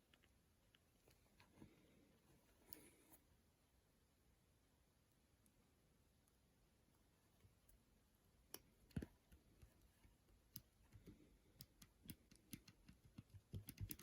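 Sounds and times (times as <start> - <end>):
faint clicks and taps handling wires: 0.0 - 3.3, 5.1 - 14.0.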